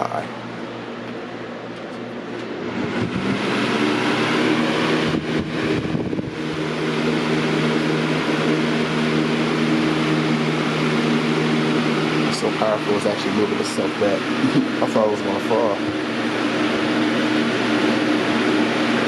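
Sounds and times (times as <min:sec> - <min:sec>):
box fan rushing air: 0:00.0 - 0:19.0.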